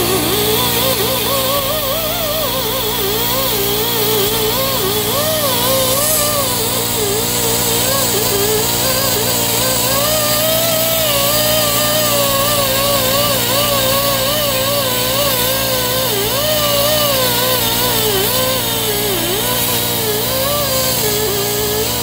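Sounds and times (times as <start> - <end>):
rotary tool grinding metal: 0.0 - 22.0.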